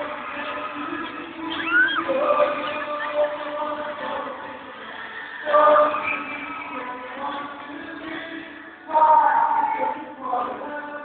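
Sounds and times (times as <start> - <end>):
acoustic guitars: 0.0 - 11.0
person singing: 0.0 - 11.0.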